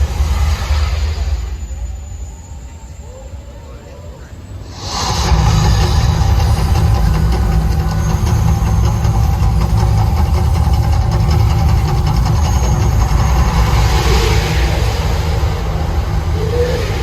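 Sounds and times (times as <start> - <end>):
deep eruption rumble: 0.0 - 3.5, 4.4 - 17.0.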